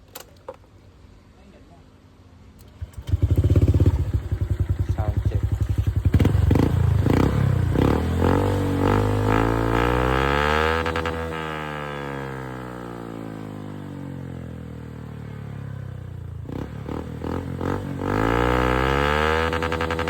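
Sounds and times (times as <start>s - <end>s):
scooter engine revving: 2.6s - 20.0s.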